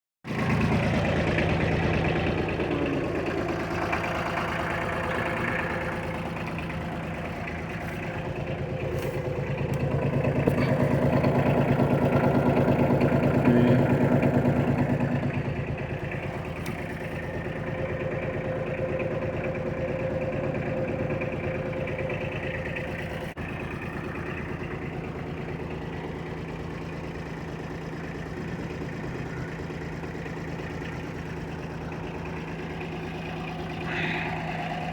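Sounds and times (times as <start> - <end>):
tractor diesel engine idling: 0.2 - 34.9.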